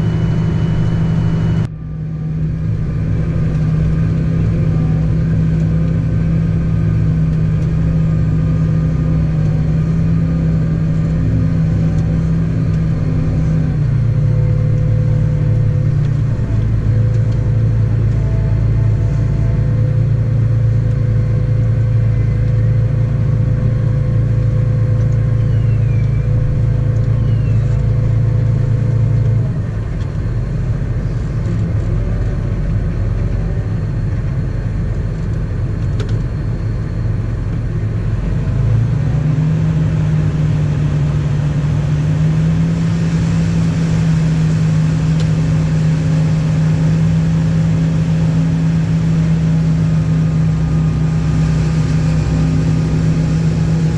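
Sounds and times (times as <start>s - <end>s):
vehicle engine running under load: 0.0s - 53.9s.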